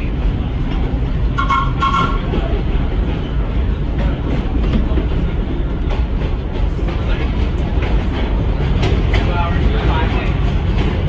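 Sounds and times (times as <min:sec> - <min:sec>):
subway train rumbling on track: 0:00.0 - 0:11.0.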